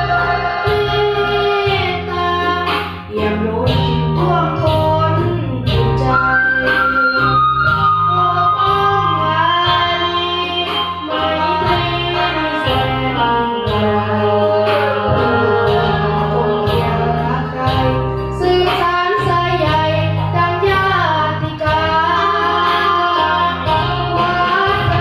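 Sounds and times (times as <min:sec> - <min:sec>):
backing music with bass beat: 0:00.0 - 0:25.0
child singing into microphone: 0:00.0 - 0:25.0.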